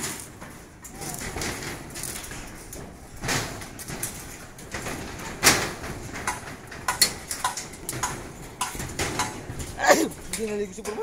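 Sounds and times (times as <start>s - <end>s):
metallic clicks on steel rebar: 0.0s - 11.0s.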